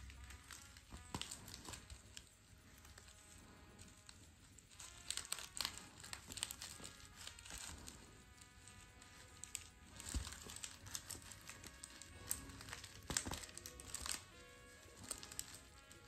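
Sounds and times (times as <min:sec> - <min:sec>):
fabric rustling and crinkling: 0:00.0 - 0:16.0
soft music: 0:00.0 - 0:16.0.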